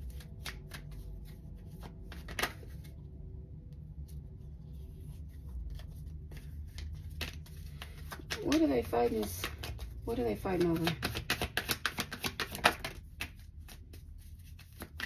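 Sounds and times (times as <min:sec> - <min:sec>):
cards being shuffled: 0:00.0 - 0:15.0
low steady hum: 0:00.0 - 0:15.0.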